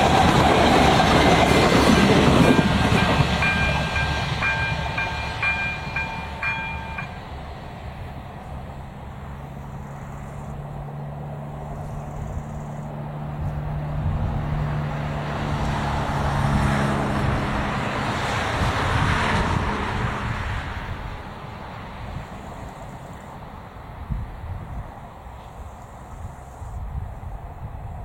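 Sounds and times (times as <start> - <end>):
train wheels rolling on rails: 0.0 - 28.0.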